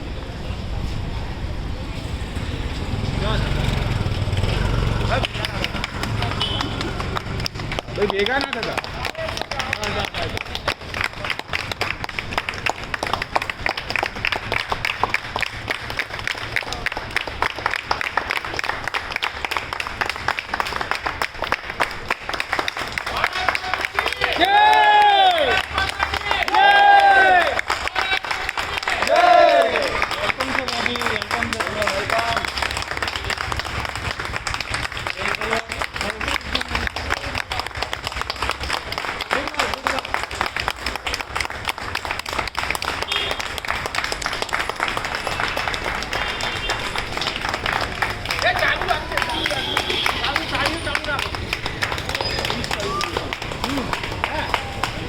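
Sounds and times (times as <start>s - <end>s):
crowd clapping: 2.8s - 55.0s
people applauding: 2.8s - 55.0s.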